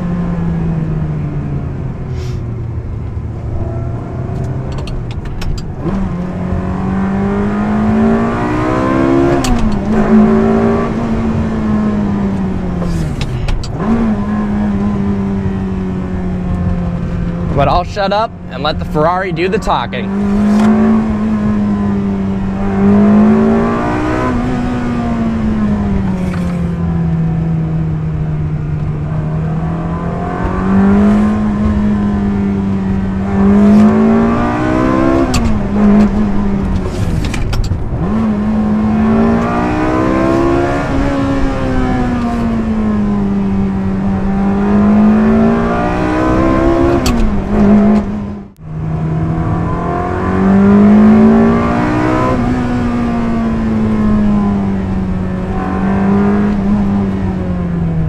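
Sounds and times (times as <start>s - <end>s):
car engine revving while driving: 0.0s - 58.0s.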